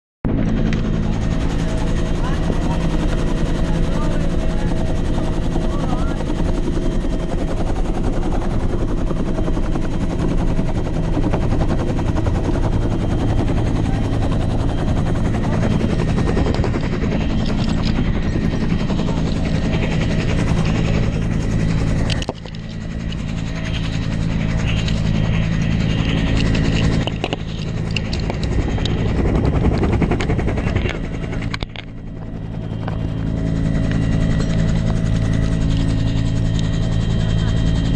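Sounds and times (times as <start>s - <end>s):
helicopter turbine and rotor drone: 0.2s - 37.9s.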